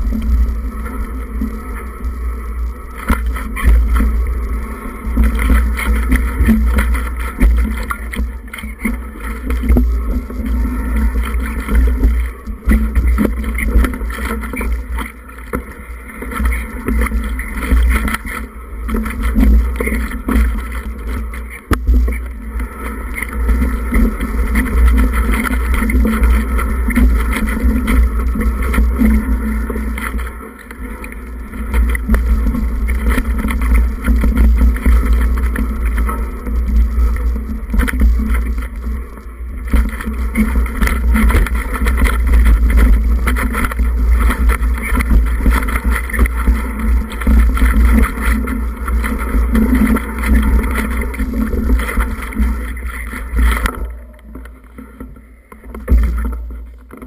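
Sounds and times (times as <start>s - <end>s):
wind rumbling on microphone: 0.0s - 57.0s
bike clattering on rough trail: 2.8s - 57.0s.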